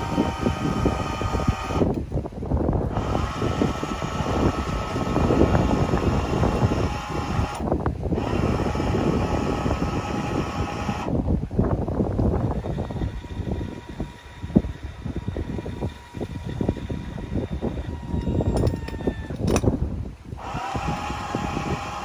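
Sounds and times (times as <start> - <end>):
vehicle road and wind noise: 0.0 - 22.0.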